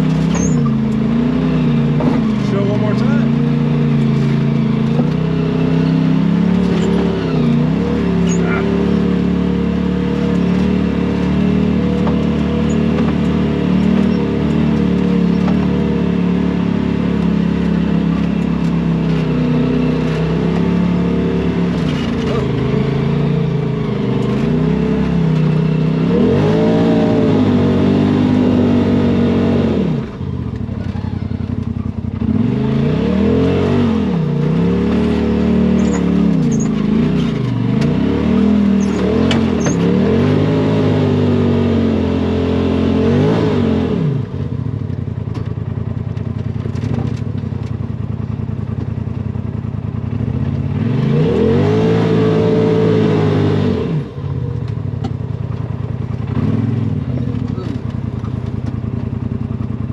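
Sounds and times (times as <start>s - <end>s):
utility vehicle engine revving: 0.0s - 59.9s.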